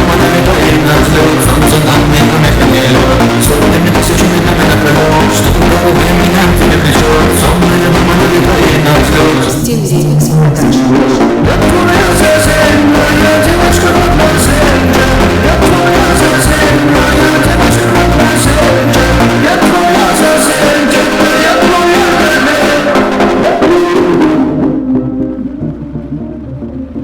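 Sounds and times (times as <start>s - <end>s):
rock music with singing: 0.0s - 25.4s.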